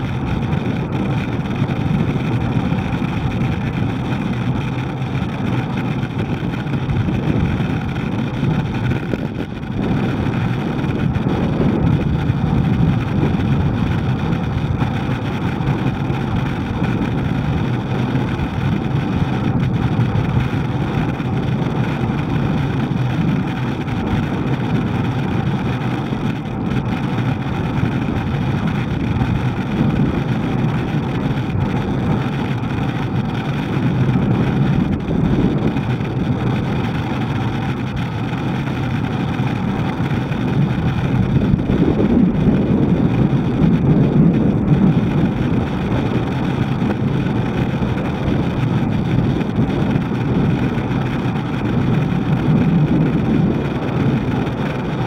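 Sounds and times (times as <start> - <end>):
road noise: 0.0 - 55.0
wind rumble on microphone: 0.0 - 55.0.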